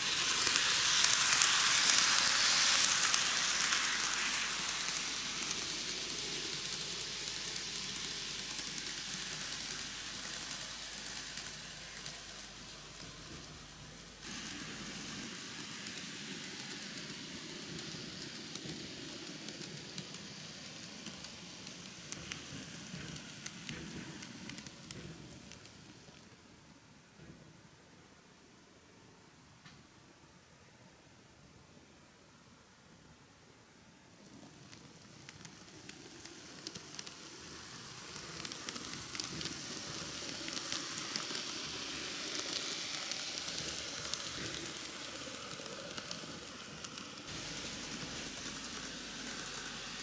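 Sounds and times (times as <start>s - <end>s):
model train wheels rolling: 0.0s - 27.4s, 34.1s - 50.0s.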